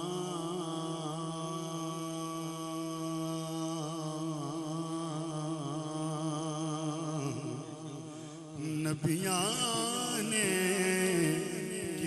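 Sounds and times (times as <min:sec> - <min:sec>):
man singing a long wavering note: 0:00.0 - 0:12.0.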